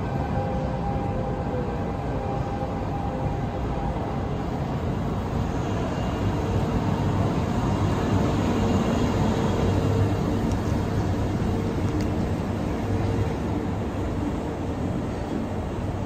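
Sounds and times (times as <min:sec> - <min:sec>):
locomotive hum: 0:00.0 - 0:16.0
train rolling past: 0:00.0 - 0:16.0.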